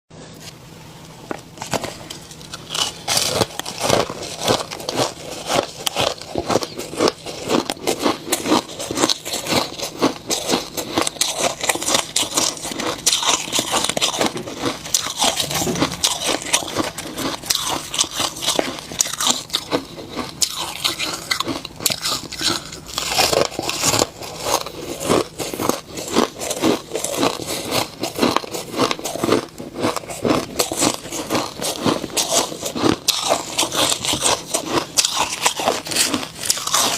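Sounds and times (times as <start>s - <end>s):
snow ice being chewed: 1.7s - 36.9s.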